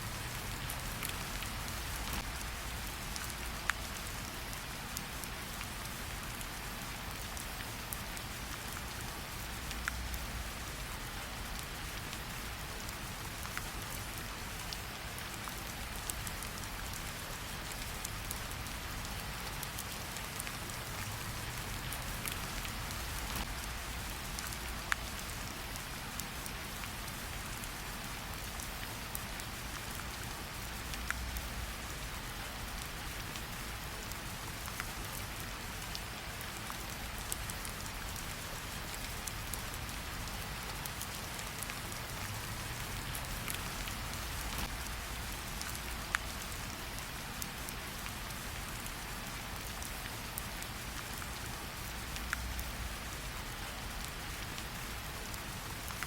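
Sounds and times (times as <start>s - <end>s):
steady rain hiss: 0.0s - 56.0s
campfire crackles: 0.1s - 56.0s.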